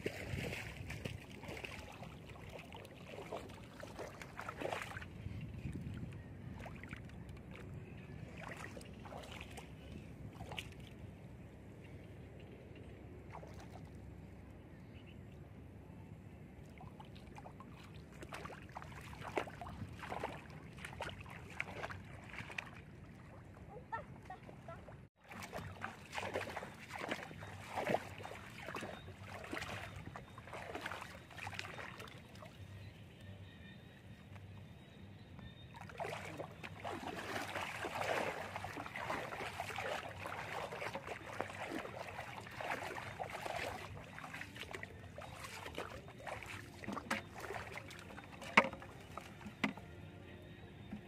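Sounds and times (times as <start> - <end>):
shallow water sloshing and splashing: 0.0 - 11.2, 12.2 - 14.0, 16.6 - 32.6, 35.7 - 49.8.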